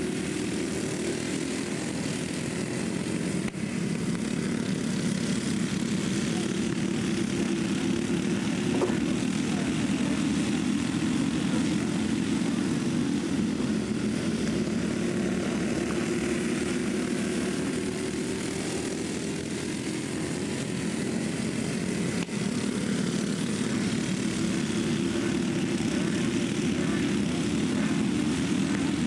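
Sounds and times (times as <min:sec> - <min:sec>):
kart engines buzzing: 0:00.0 - 0:29.0.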